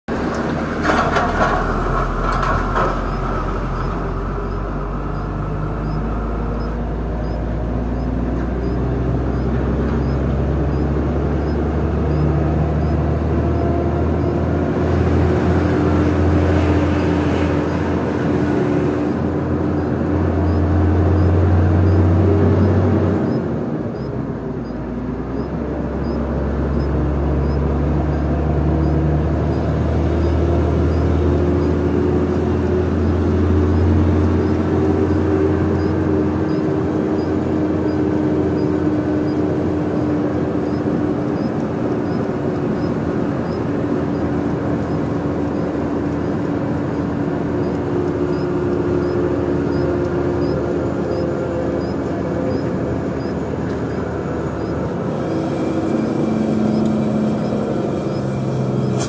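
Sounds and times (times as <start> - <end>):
diesel engine hum: 0.0 - 59.0
deep drone: 0.1 - 59.0
tyre road noise: 0.1 - 59.0.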